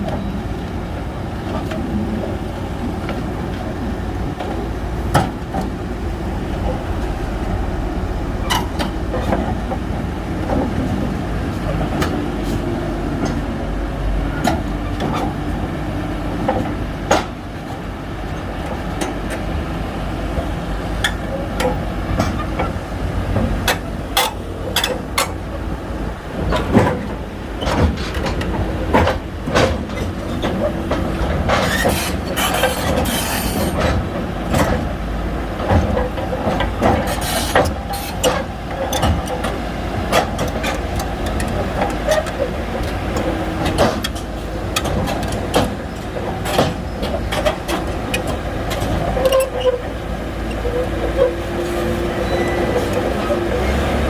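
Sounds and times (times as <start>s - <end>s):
bulldozer diesel engine running: 0.0s - 54.0s
steel tracks clanking: 0.0s - 54.0s.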